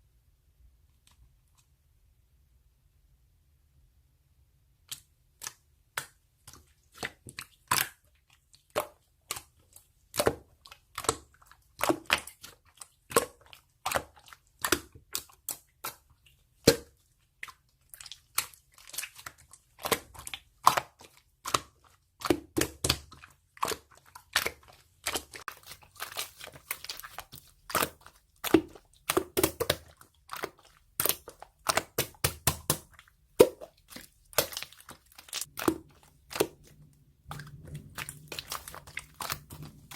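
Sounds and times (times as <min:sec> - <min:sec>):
slime squished by hand: 0:04.8 - 0:39.9.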